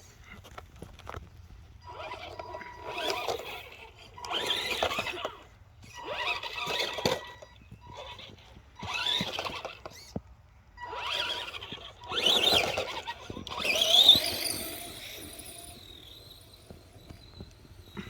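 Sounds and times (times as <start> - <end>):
toy truck motor whining: 1.8 - 10.2, 10.8 - 18.0.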